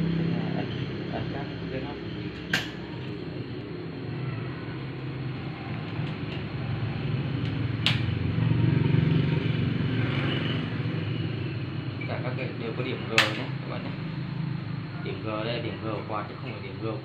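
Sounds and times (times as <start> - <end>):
low motor hum: 0.0 - 15.2.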